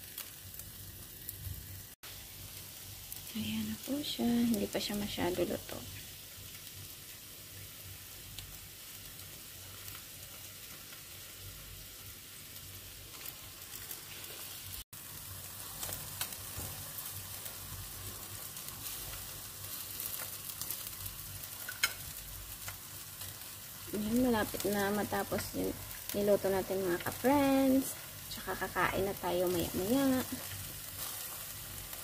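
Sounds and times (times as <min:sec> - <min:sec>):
chicken sizzling on grill: 0:00.0 - 0:32.0.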